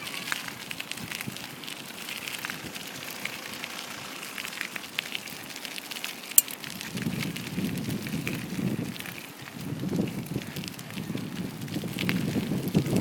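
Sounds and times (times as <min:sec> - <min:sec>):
dog drying itself on ground: 0:00.0 - 0:13.0.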